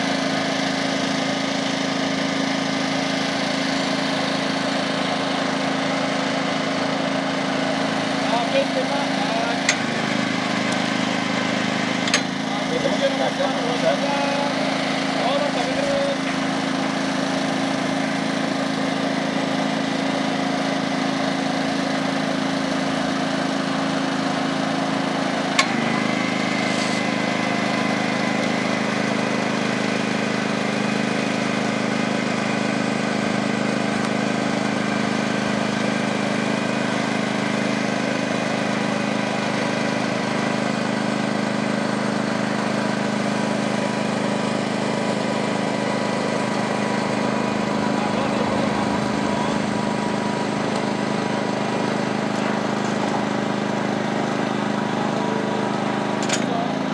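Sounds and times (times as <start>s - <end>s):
winch engine running: 0.0s - 56.9s.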